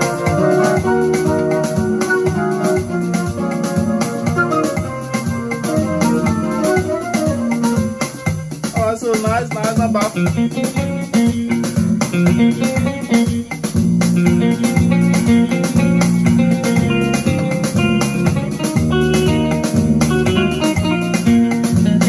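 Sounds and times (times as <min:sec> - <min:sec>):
keyboard plucked guitar-like chords: 0:00.0 - 0:22.0
steady bass line: 0:00.0 - 0:22.0.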